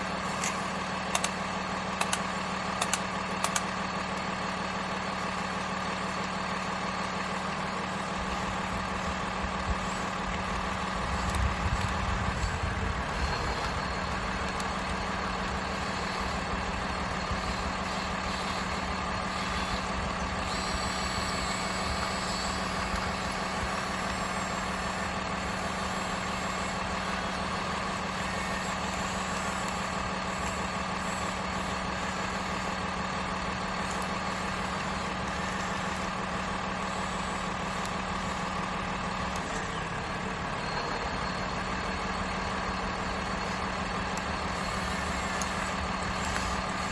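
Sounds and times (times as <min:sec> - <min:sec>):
electric motor hum: 0:00.0 - 0:40.4, 0:42.9 - 0:46.9.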